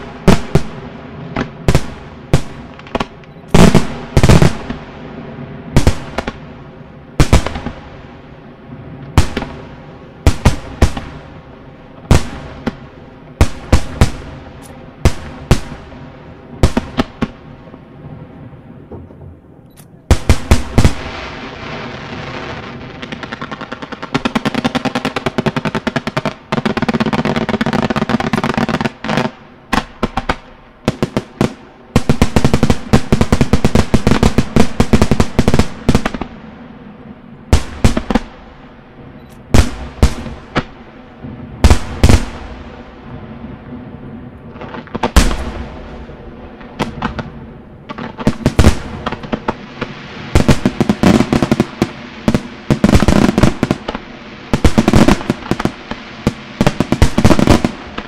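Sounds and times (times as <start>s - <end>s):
fireworks bangs: 0.0s - 58.0s
rapid fireworks crackling bangs: 0.0s - 58.0s.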